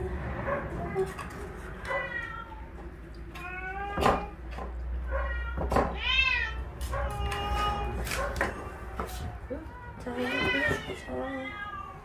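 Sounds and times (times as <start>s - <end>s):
cats meowing: 0.4s - 12.0s.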